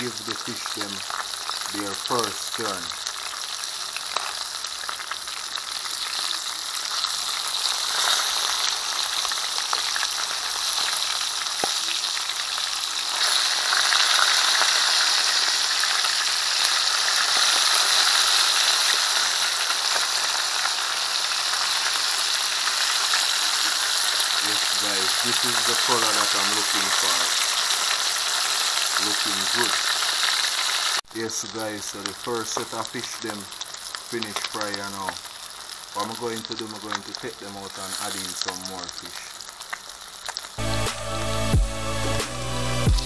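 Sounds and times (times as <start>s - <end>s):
fish sizzling in oil: 0.0s - 40.6s.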